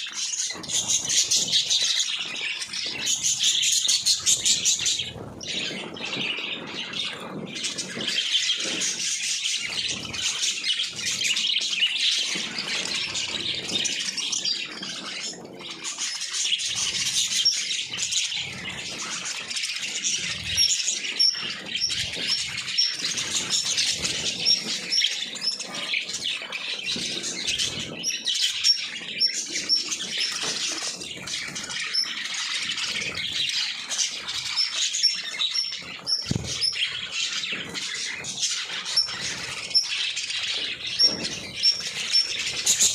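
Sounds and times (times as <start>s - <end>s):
cage birds chirping: 0.0s - 42.9s.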